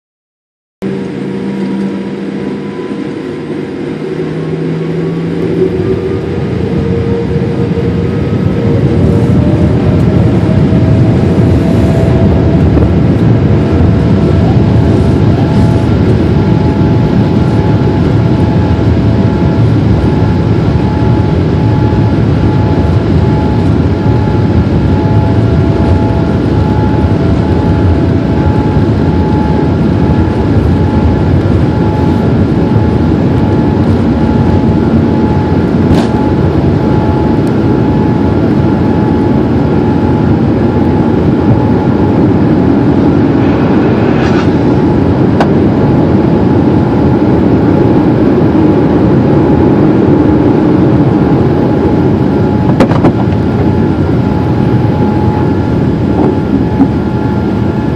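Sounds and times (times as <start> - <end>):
jet engines roaring: 0.8 - 57.9
wheels rumbling on runway: 0.8 - 57.9.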